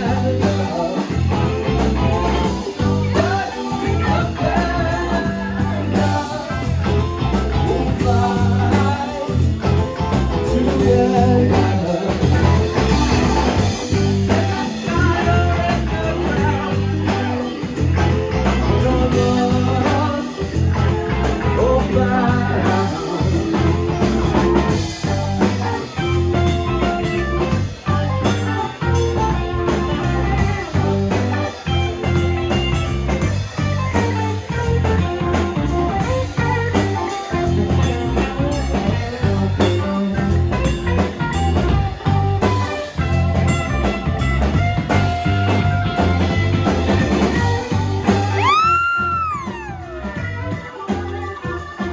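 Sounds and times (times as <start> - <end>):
bass: 0.0 - 51.9
drums: 0.0 - 51.9
electric guitar: 0.0 - 51.9
keyboards: 0.0 - 51.9.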